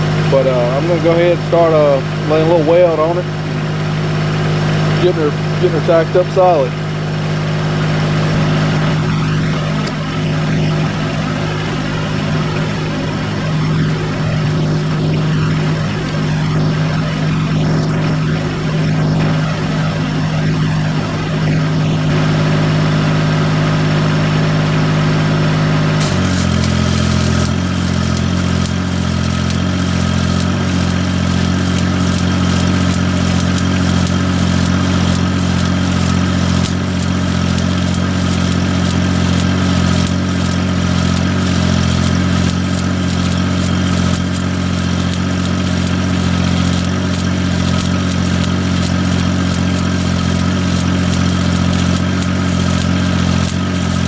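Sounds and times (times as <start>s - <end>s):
engine running: 0.0s - 54.0s
stick welding crackle: 0.0s - 54.0s.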